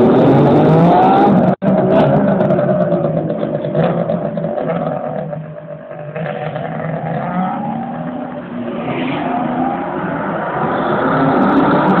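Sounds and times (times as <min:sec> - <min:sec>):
car traffic: 0:00.0 - 0:12.0.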